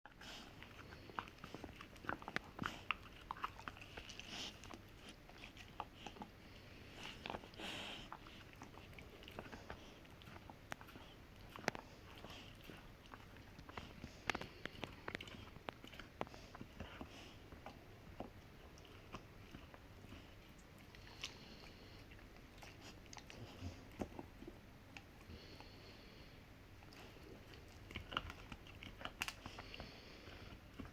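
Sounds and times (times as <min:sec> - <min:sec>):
dog gnawing on hard chew: 0:00.1 - 0:26.0, 0:26.8 - 0:30.9.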